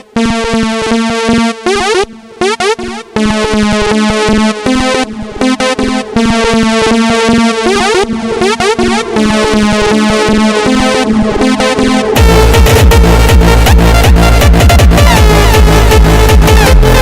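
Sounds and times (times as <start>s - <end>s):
electronic synthesizer music: 0.0s - 17.0s.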